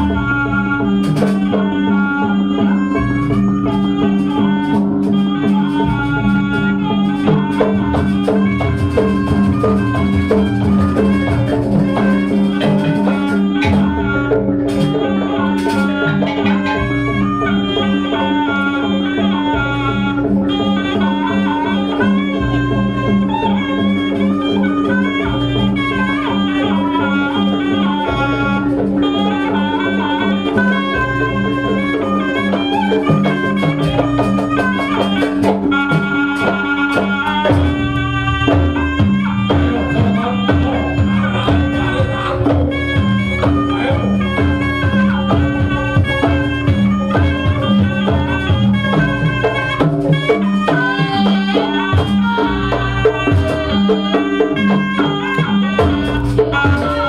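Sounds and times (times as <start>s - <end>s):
drums: 0.0s - 57.0s
fast repeating gong pattern: 0.0s - 57.0s
reed trumpet melody: 0.0s - 57.0s.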